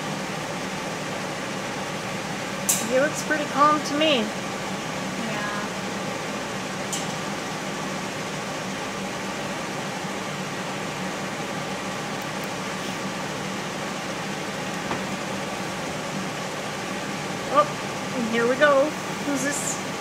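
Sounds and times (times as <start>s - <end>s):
air handling hiss and hum: 0.0s - 20.0s.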